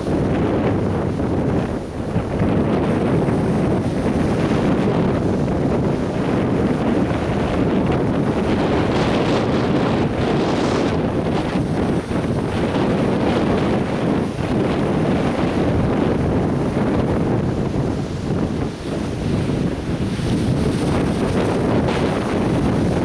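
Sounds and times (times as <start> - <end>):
surf breaking on sandy beach: 0.0 - 23.0
wind buffeting microphone: 0.0 - 23.0.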